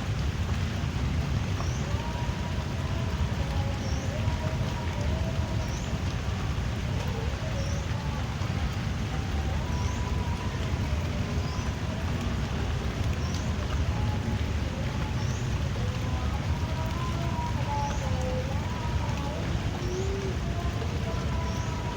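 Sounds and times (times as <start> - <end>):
drizzling rain: 0.0 - 21.9.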